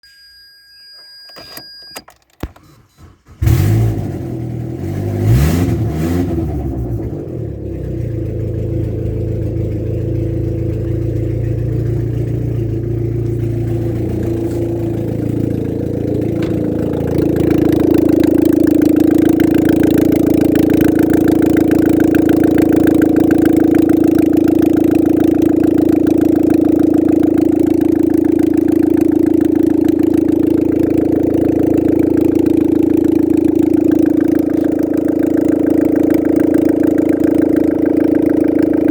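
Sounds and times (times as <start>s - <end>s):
petrol engine starting and revving: 2.4s - 38.9s.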